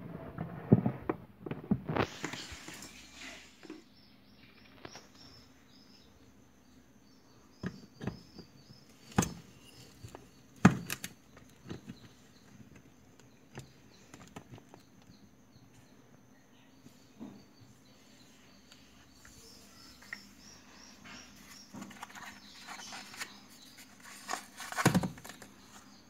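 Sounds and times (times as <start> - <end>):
faint high chirping: 2.3 - 26.0.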